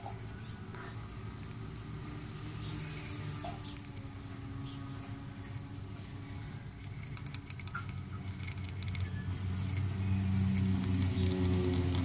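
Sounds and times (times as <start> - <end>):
steady low hum: 0.0 - 12.0
toothbrush scrubbing glass: 0.0 - 12.0.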